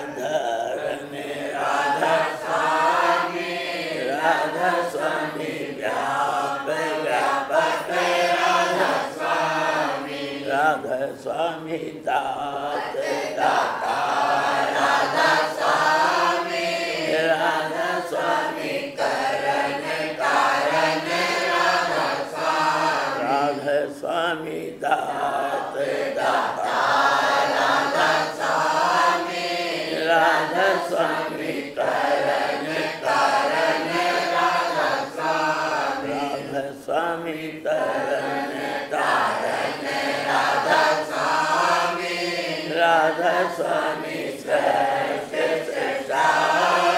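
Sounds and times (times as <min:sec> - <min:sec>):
group chanting devotional song: 0:00.0 - 0:46.9.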